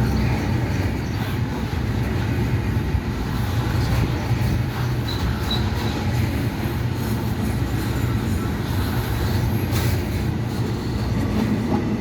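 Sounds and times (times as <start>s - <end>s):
goods train rumbling past: 0.0s - 12.0s.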